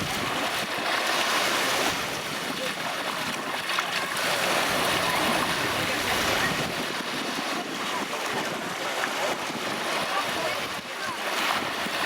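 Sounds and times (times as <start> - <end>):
waves washing onto beach: 0.0 - 12.0.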